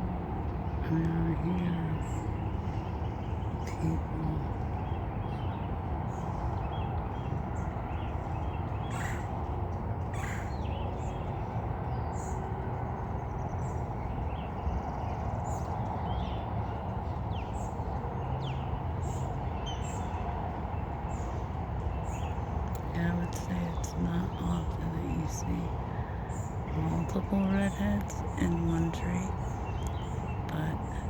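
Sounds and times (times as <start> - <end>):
birds chirping: 0.0 - 31.0
low background rumble: 0.0 - 31.0.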